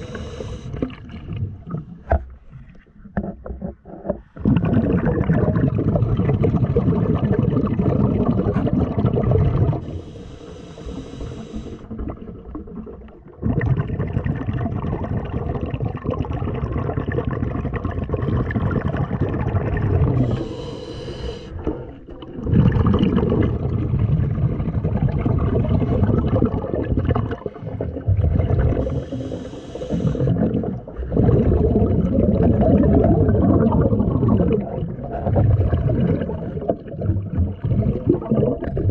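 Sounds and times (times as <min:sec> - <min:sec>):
underwater churning and bubbles: 0:00.0 - 0:38.9.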